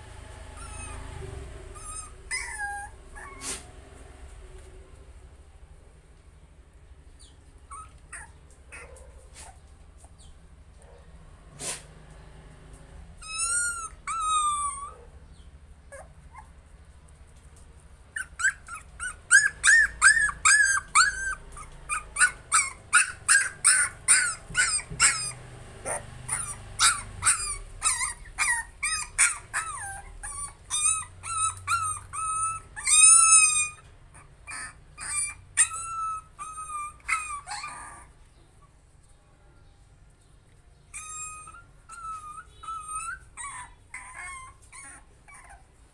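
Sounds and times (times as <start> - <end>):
puppy whining and yelping: 0.3 - 3.8, 7.2 - 10.3, 13.2 - 38.9, 40.7 - 45.9.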